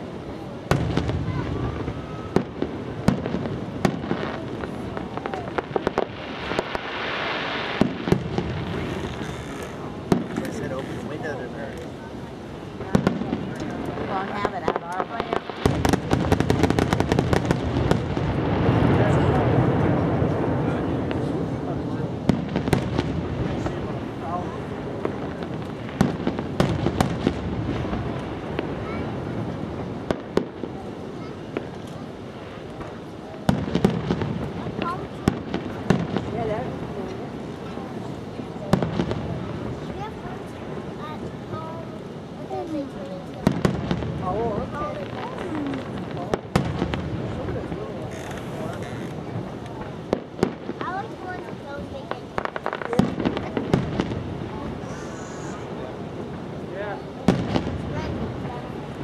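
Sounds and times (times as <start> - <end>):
fireworks bangs and pops: 0.0 - 59.0
fireworks crackling hiss: 0.0 - 59.0.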